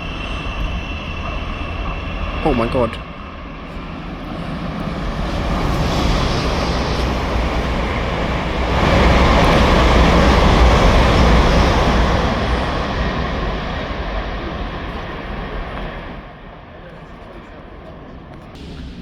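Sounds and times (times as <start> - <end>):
train passing close by: 0.0 - 19.0.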